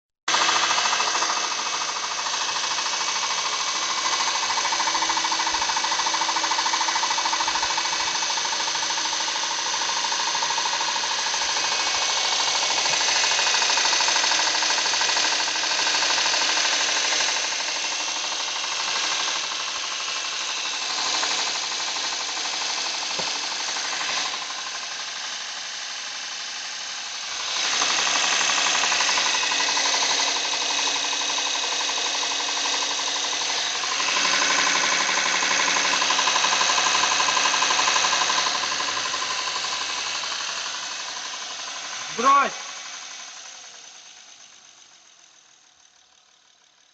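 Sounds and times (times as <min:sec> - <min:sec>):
car engine running: 0:00.3 - 0:46.8.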